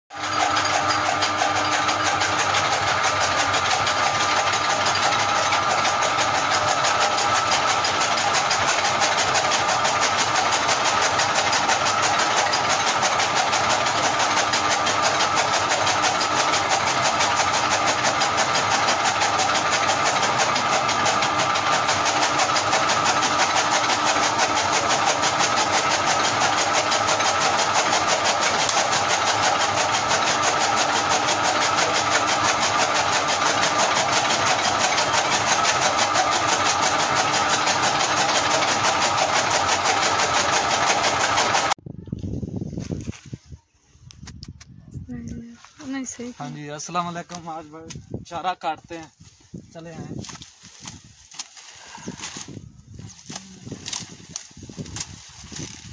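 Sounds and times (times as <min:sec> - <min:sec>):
chaff cutter whirring: 0:00.1 - 0:41.8, 0:50.1 - 0:55.9.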